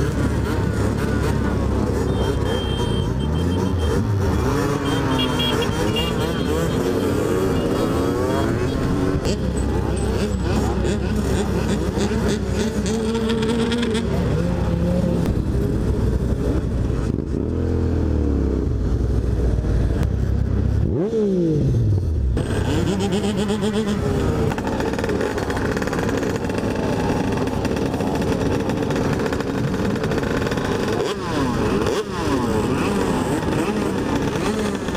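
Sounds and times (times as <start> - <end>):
motorcycle engines idling and revving: 0.0 - 34.9.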